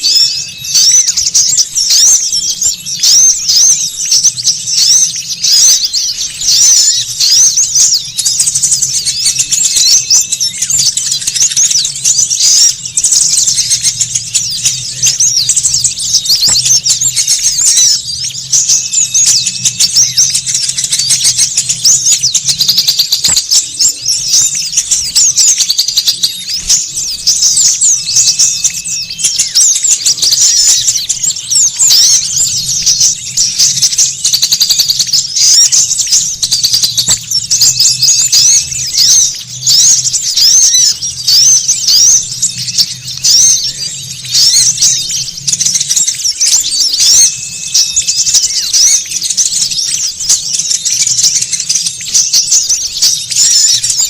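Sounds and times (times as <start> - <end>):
songbird flock chirping: 0.0 - 54.0.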